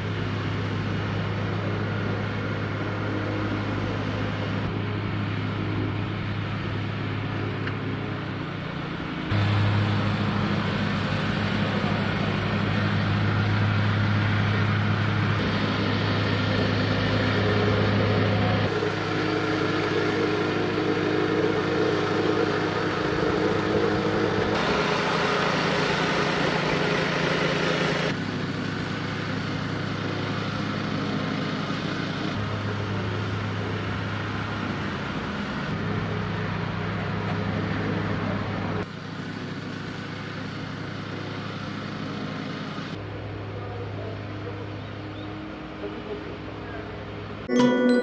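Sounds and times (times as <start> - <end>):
construction machinery motor running: 0.0 - 47.4.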